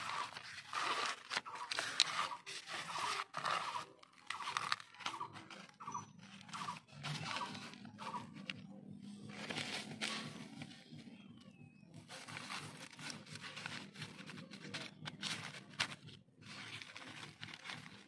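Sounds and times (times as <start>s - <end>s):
potting mix rustling and crunching: 0.0s - 18.0s.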